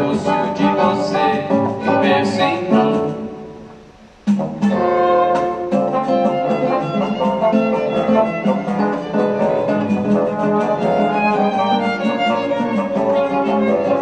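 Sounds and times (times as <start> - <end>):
bowed strings: 0.0 - 14.0
violin melody: 0.0 - 14.0.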